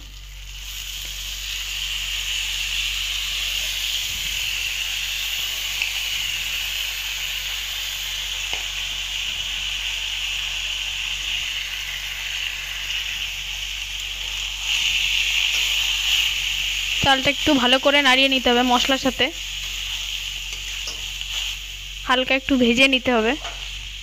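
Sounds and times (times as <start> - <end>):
rice sizzling in hot oil: 0.0 - 24.0.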